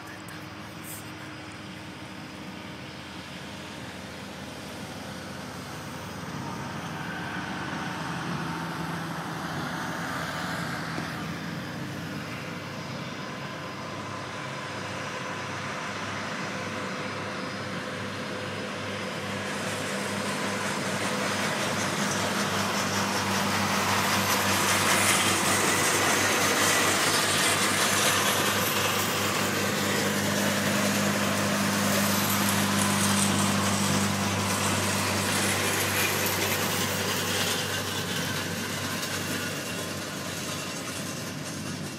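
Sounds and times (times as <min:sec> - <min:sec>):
baggage tractor engine: 0:00.0 - 0:41.9
jet aircraft engine: 0:00.0 - 0:41.9.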